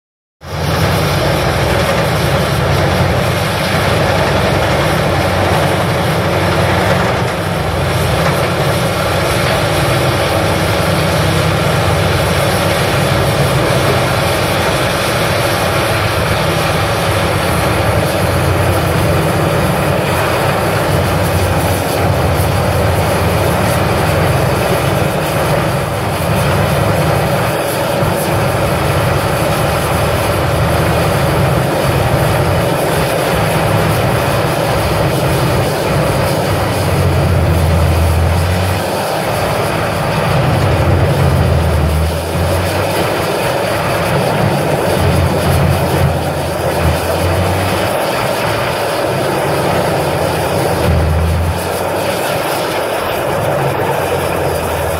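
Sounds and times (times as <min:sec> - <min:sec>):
grinder diesel drone: 0:00.4 - 0:54.9
wood being shredded: 0:00.5 - 0:27.8, 0:28.6 - 0:54.9.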